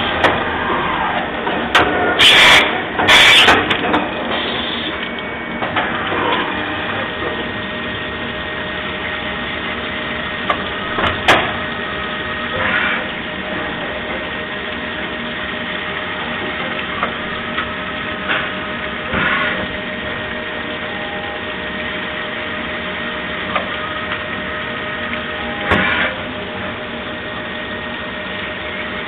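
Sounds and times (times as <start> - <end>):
coolant splashing: 0.0 - 29.0.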